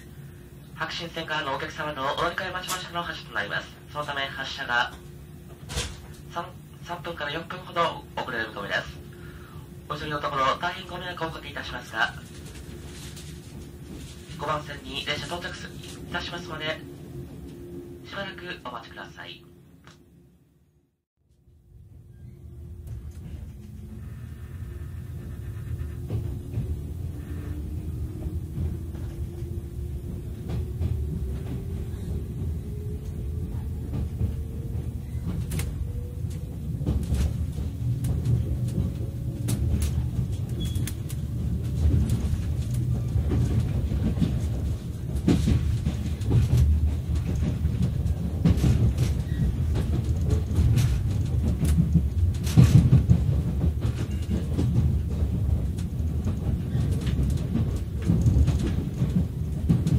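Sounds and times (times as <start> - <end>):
train running rumble: 0.0 - 19.9, 21.4 - 59.9.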